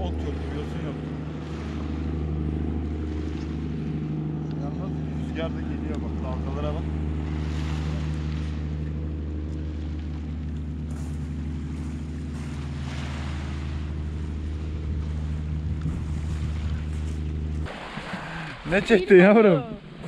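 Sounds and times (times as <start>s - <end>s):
engine droning: 0.0s - 20.0s
waves breaking: 0.0s - 20.0s
wind: 0.0s - 20.0s.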